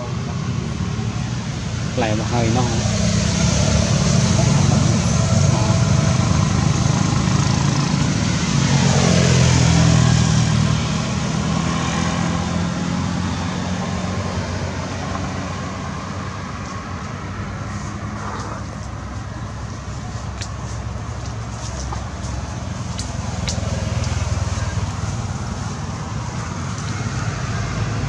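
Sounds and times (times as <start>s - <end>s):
vehicle engine passing by: 0.0s - 28.0s.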